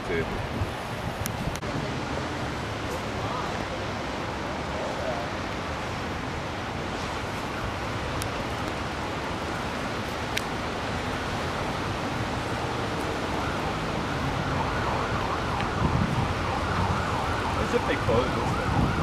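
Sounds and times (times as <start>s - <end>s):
rushing river: 0.0s - 19.0s
emergency vehicle siren: 1.8s - 19.0s.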